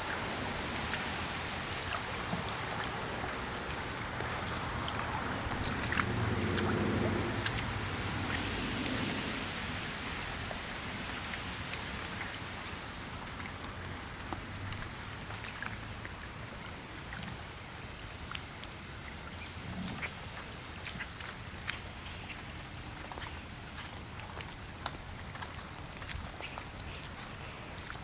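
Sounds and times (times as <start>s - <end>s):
scattered drips: 0.0s - 28.0s
steady rain falling: 0.0s - 28.0s.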